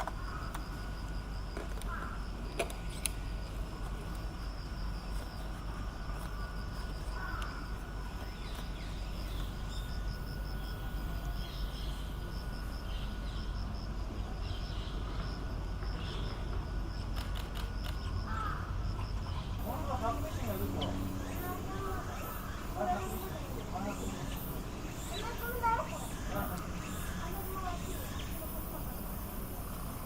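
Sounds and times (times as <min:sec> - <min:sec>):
insects trilling: 0:00.0 - 0:30.0
low outdoor rumble: 0:00.0 - 0:30.0.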